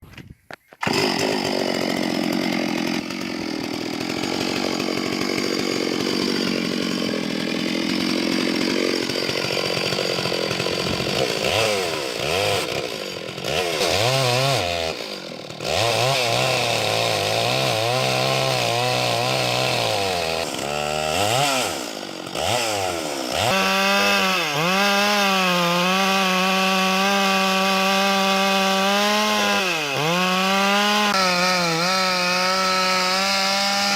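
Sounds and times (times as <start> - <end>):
chainsaw cutting log: 0.6 - 33.9.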